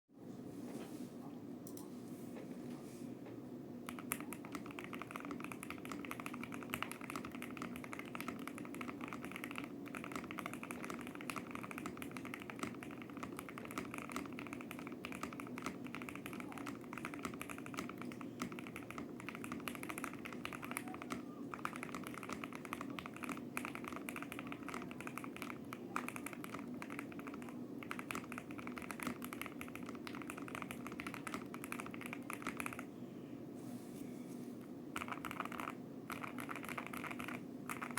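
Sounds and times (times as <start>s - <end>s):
fast typing on mechanical keyboard: 3.9s - 32.9s, 35.0s - 37.9s.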